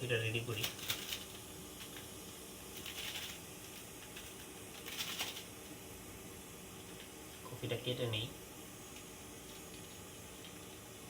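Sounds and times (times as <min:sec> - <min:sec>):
electric kettle hissing: 0:00.0 - 0:11.0.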